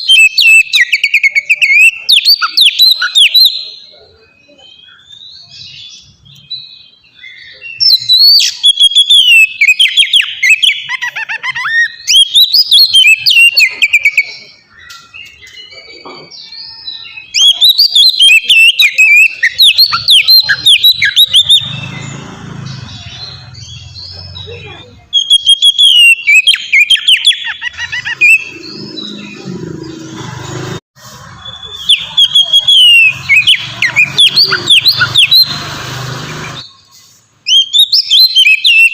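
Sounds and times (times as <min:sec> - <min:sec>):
songbird singing whistles and chatter: 0:00.0 - 0:30.2, 0:31.0 - 0:38.9.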